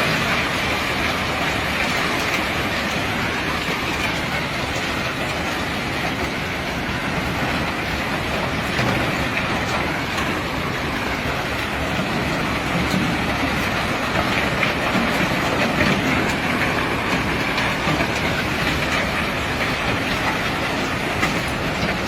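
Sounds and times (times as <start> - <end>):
rock cargo unloading rumble: 0.0 - 22.0.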